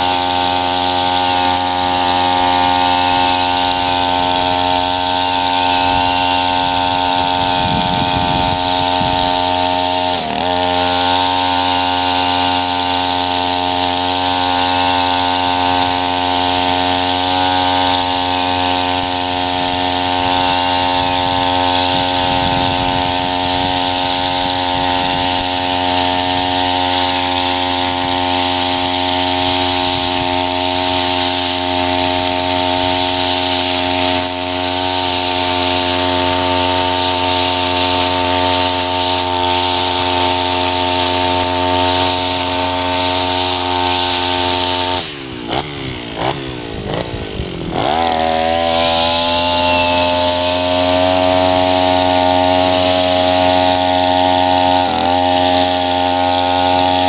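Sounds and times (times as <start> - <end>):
brush cutter running: 0.0 - 57.0
line head cutting grass: 0.0 - 57.0.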